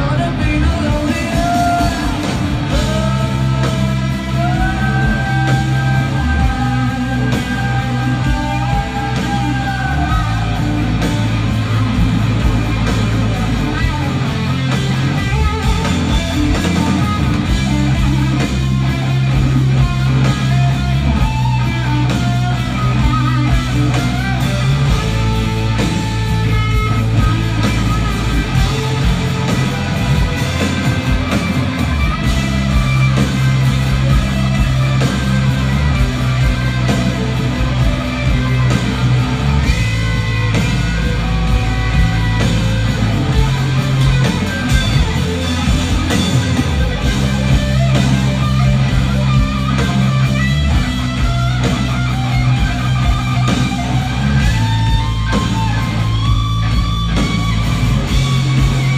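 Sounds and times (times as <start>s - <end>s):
bass and drums: 0.0s - 58.9s
electric guitar lead lines: 0.0s - 58.9s.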